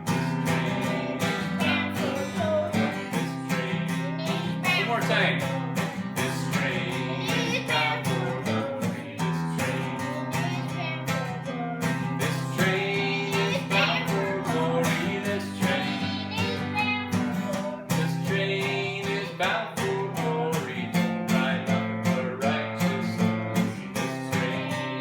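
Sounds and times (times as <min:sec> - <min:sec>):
acoustic guitar strumming: 0:00.0 - 0:25.0
child singing: 0:00.0 - 0:25.0
people singing: 0:00.0 - 0:25.0.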